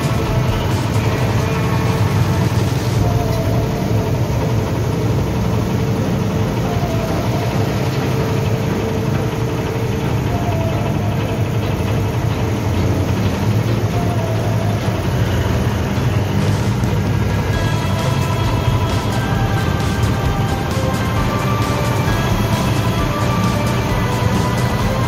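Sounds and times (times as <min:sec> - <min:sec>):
cars passing: 0:00.0 - 0:25.0
motorbikes passing: 0:00.0 - 0:25.0
road roller engine running: 0:00.0 - 0:25.0.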